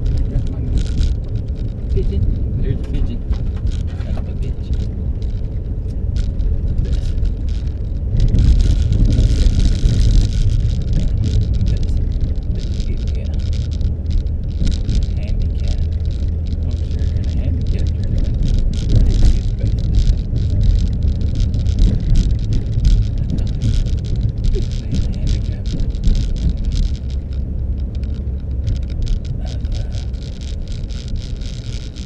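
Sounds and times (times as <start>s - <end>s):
car engine and road noise: 0.0s - 32.0s
crackling noise: 0.0s - 32.0s.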